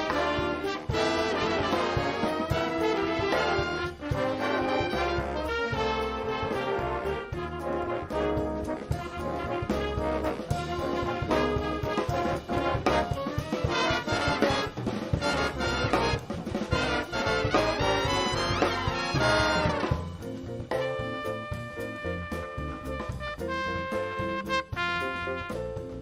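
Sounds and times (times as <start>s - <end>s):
brass band playing: 0.0s - 26.0s
steady bass: 0.0s - 26.0s.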